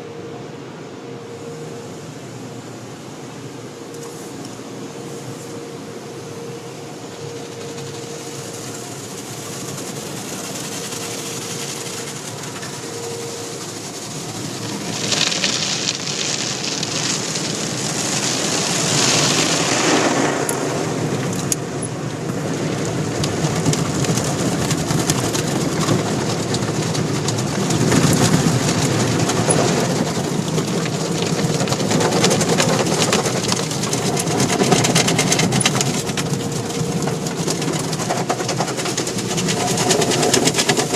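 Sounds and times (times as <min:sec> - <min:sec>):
car wash mechanical rumble: 0:00.0 - 0:40.9.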